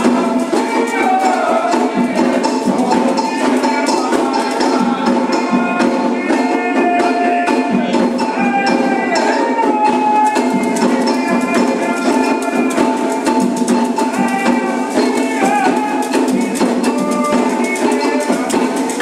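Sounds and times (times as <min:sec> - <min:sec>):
fast dense percussion: 0:00.0 - 0:19.0
voices singing: 0:00.0 - 0:19.0.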